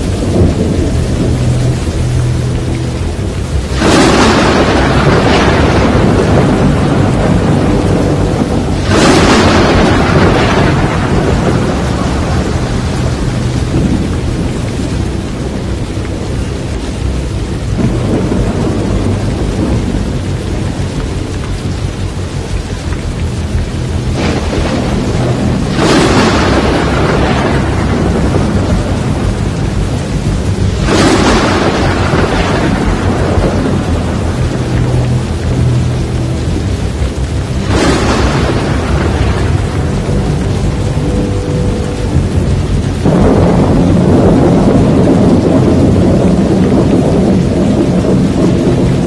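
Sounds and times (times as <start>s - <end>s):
heavy wind rumble and hiss: 0.0s - 49.0s.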